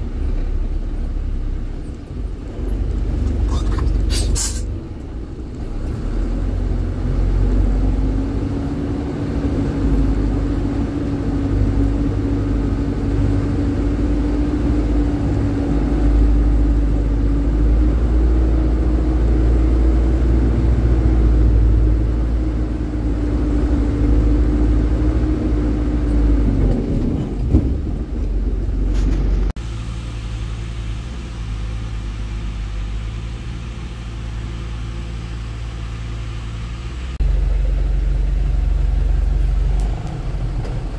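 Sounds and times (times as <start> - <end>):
dump truck engine droning: 0.0 - 40.9
low engine hum: 0.0 - 40.9.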